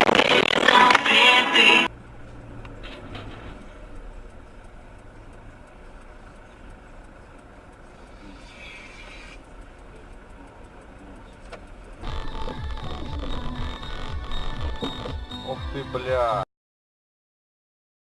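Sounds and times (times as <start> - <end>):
car engine and road noise: 0.0 - 16.4.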